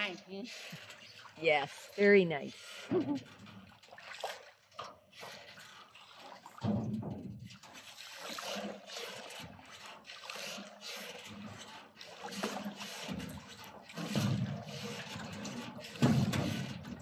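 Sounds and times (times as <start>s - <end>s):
oar strokes: 0.0s - 17.0s
water splashing around rowboat: 0.0s - 17.0s.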